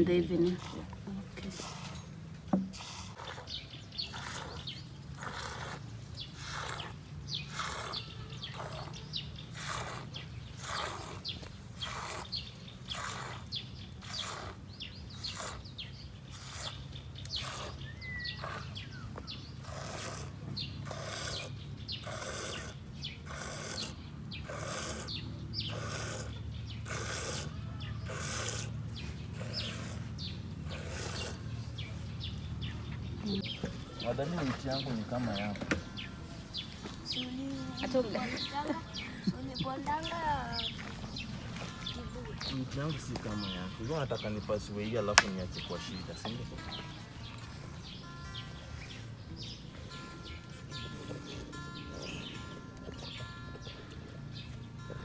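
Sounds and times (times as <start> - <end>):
bird chirp: 0.0 - 55.0.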